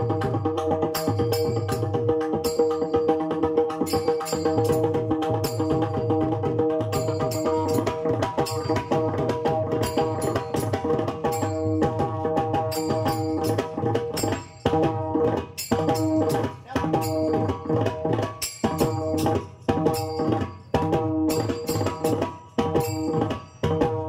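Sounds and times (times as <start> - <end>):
fast drumming: 0.0 - 24.0.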